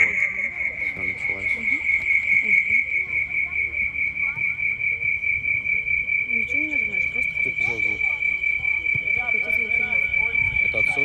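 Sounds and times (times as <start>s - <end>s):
high-pitched audio feedback whine: 0.0s - 11.0s.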